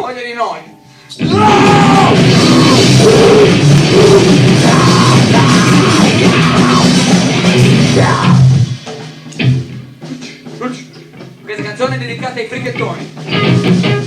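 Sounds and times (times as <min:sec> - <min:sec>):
guitar: 0:00.0 - 0:14.0
distorted noise rock song: 0:01.2 - 0:14.0
drum kit: 0:01.2 - 0:14.0.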